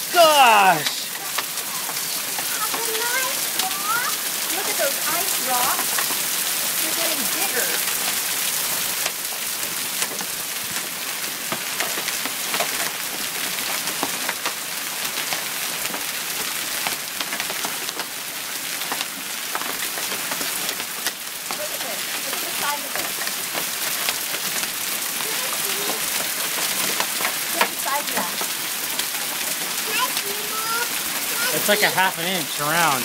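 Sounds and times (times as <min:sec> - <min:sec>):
hailstones striking hard surfaces: 0:00.0 - 0:33.0
hiss of falling rain: 0:00.0 - 0:33.0.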